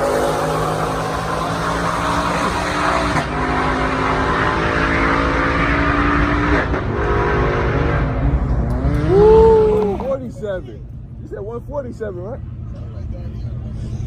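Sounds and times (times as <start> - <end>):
car engine at full throttle: 0.0 - 14.0.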